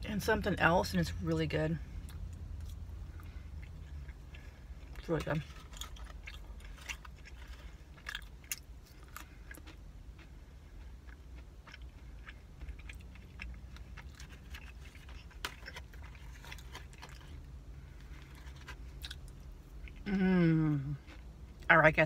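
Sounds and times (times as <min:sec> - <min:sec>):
low hum: 0:00.0 - 0:22.0
person chewing: 0:02.0 - 0:21.7.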